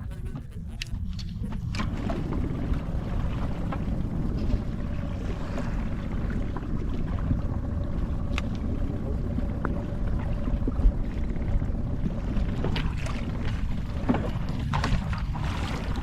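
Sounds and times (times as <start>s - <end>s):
boat engine low rumble: 0.0s - 16.0s
faint constant hum: 0.0s - 16.0s.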